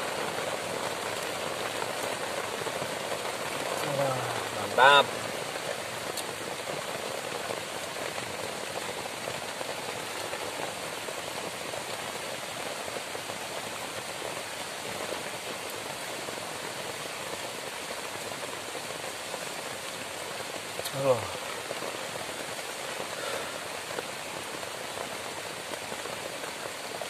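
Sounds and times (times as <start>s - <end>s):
heavy rain on grass shelter: 0.0s - 27.0s.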